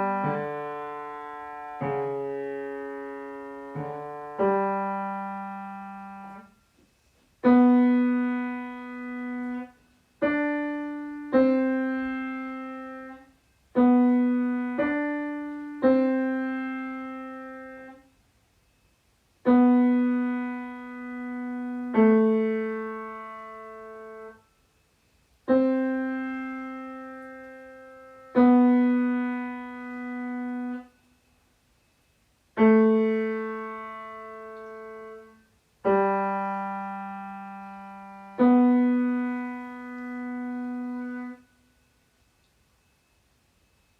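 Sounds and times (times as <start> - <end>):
piano playing slow melody: 0.0 - 6.8, 7.4 - 18.1, 19.4 - 24.7, 25.3 - 31.0, 32.5 - 41.9.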